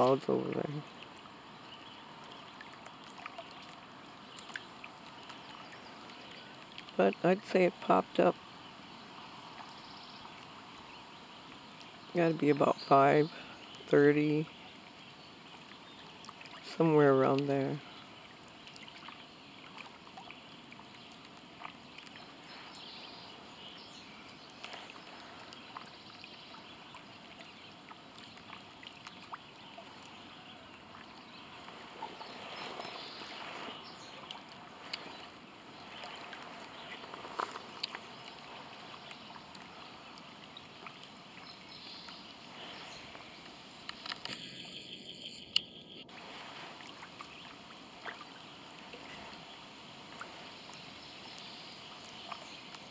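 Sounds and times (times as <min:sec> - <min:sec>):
little splashes and ticks: 0:00.0 - 0:52.9
waves lapping against dock: 0:00.0 - 0:52.9.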